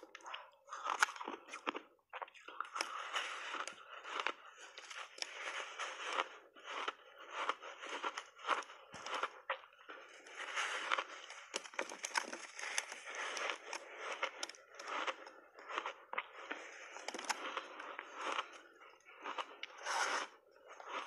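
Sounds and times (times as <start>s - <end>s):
crunching ice: 0.0s - 21.0s.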